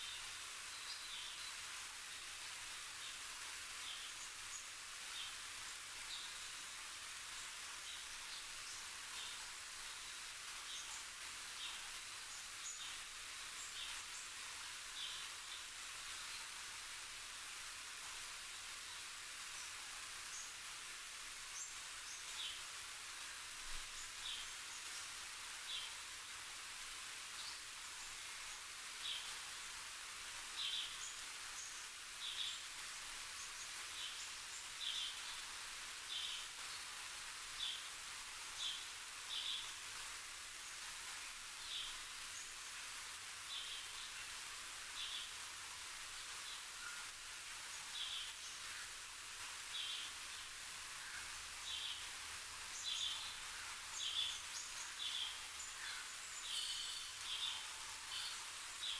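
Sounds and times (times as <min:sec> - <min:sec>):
steady hiss: 0:00.0 - 0:58.9.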